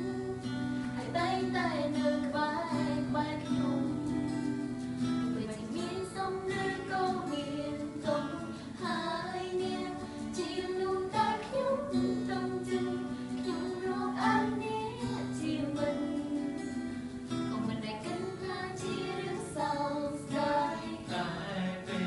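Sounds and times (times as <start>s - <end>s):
people singing: 0.0s - 22.0s
strummed acoustic guitar: 0.0s - 22.0s.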